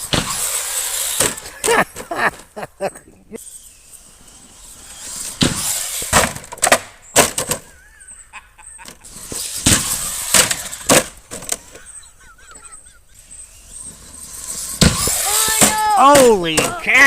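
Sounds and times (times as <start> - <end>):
tyres on gravel: 0.0 - 17.0.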